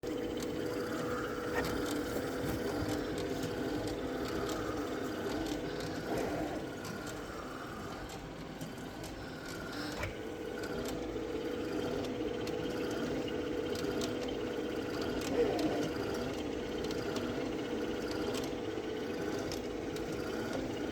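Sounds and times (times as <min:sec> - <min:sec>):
machine mechanical hum: 0:00.0 - 0:20.9.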